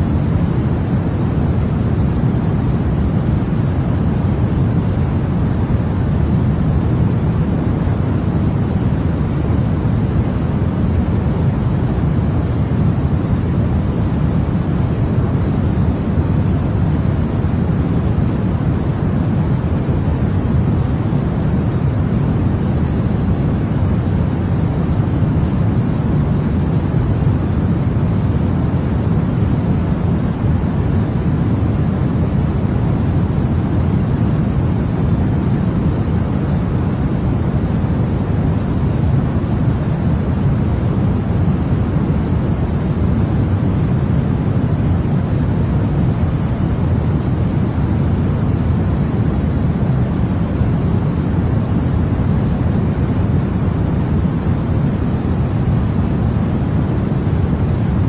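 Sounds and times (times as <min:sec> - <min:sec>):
deep rushing white noise: 0:00.0 - 0:58.0.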